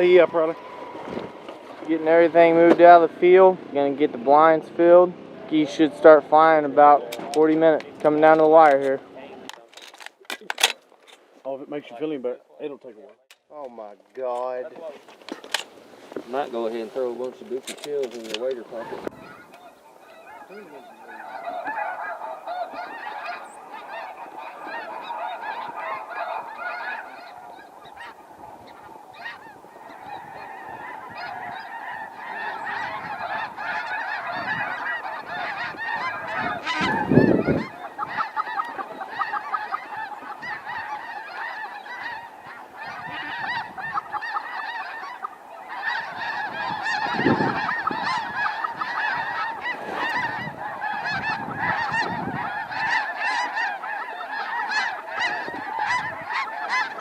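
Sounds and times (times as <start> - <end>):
flock of geese honking: 0.0 - 10.8, 13.5 - 57.0.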